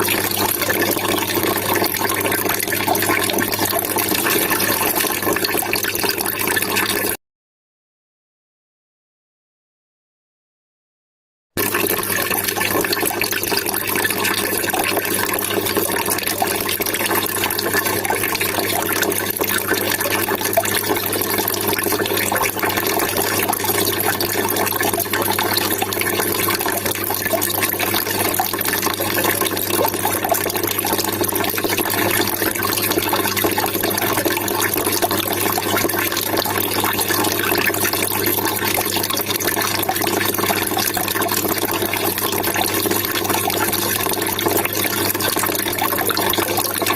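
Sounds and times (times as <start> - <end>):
water trickling and splashing: 0.0 - 7.2, 11.6 - 46.9.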